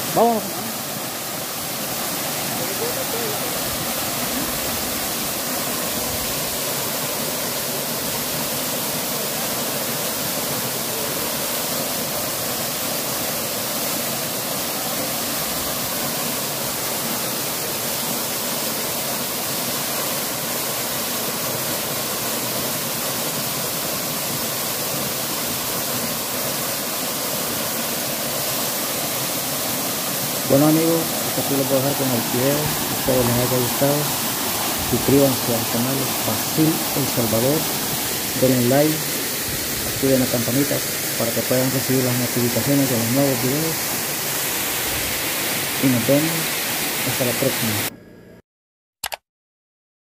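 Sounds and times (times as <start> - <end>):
waterfall rushing into pool: 0.0 - 47.9.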